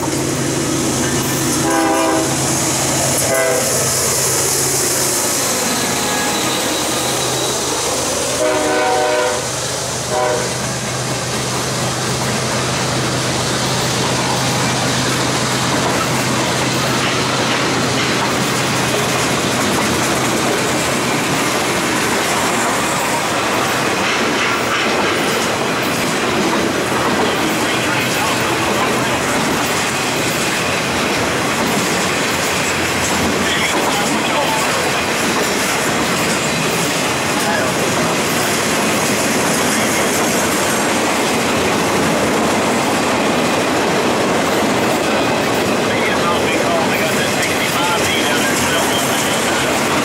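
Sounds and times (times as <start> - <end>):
freight train wheels rolling: 0.0 - 50.0.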